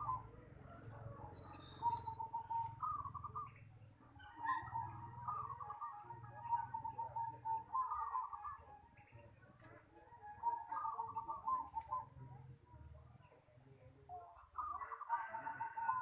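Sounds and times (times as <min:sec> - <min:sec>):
doves cooing: 0:00.0 - 0:12.3, 0:14.4 - 0:16.0.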